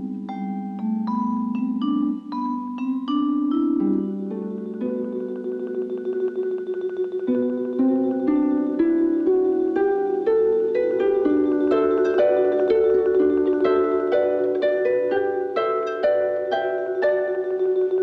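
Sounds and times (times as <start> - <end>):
plucked melody: 0.0 - 18.0.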